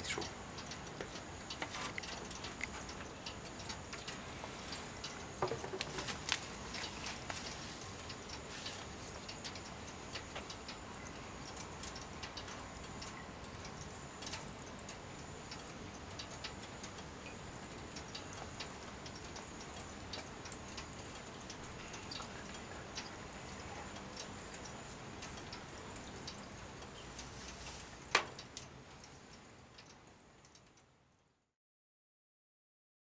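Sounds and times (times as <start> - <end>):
water dripping into foil trays: 0.0 - 31.2
faint steady hiss: 0.0 - 31.6.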